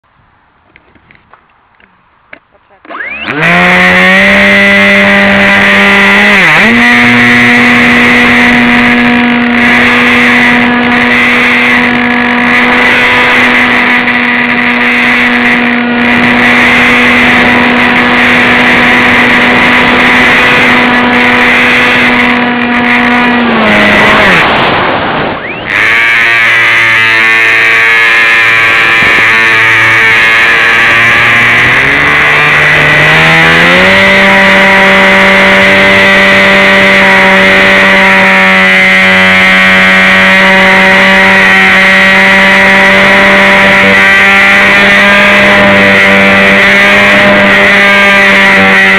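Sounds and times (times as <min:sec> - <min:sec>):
model plane motor whining: 0:02.8 - 0:48.9.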